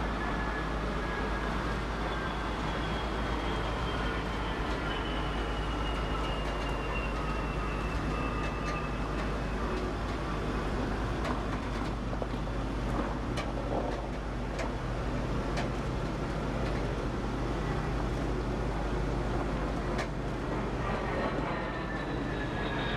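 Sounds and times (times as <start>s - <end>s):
truck diesel engine rumble: 0.0s - 22.9s.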